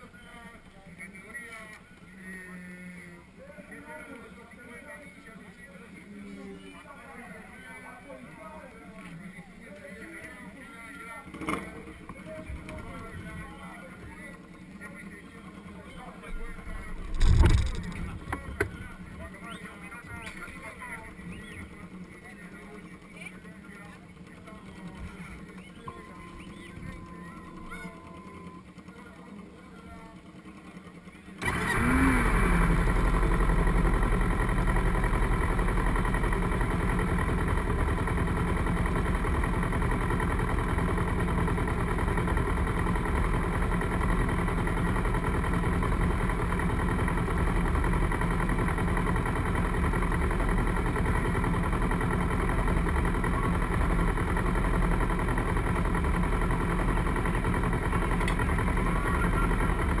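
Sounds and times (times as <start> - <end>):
racing motorcycle engines running: 9.8 - 60.0.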